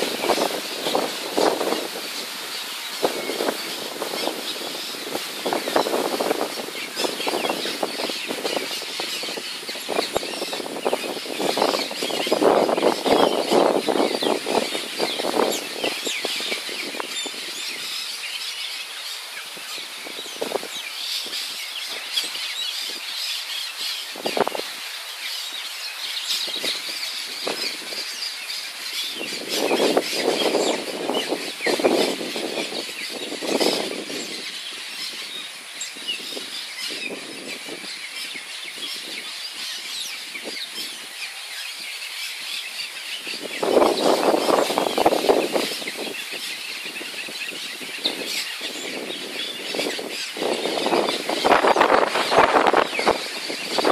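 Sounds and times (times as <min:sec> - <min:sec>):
birds chirping and calling: 0:00.0 - 0:53.9.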